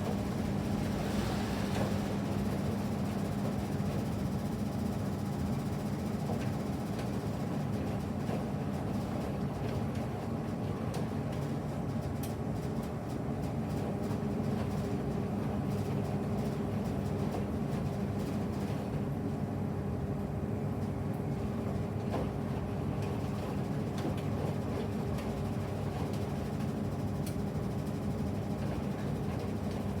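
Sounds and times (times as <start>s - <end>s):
washing machine running: 0.0s - 30.0s.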